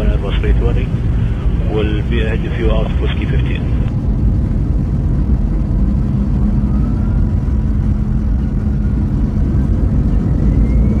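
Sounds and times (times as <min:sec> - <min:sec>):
aircraft engines droning: 0:00.0 - 0:11.0.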